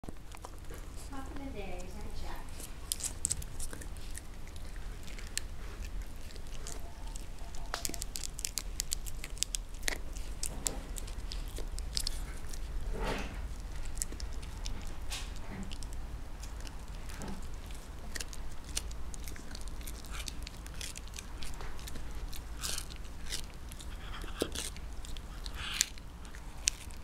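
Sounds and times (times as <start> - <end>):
dog gnawing on chew-bone: 0.0 - 27.0.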